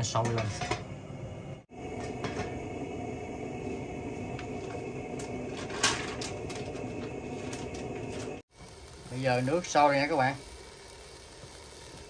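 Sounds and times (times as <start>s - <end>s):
pot of water rumbling on stove: 1.6s - 12.0s.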